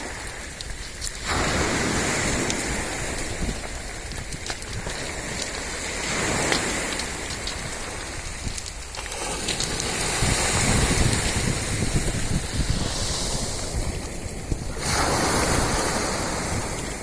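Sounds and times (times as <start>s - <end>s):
sea waves washing onto shore: 0.0s - 17.0s
wind on microphone: 0.0s - 17.0s.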